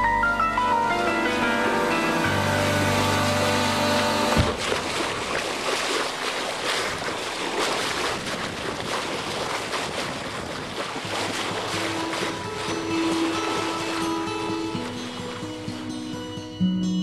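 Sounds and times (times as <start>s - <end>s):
water rushing along boat hull: 0.0s - 17.0s.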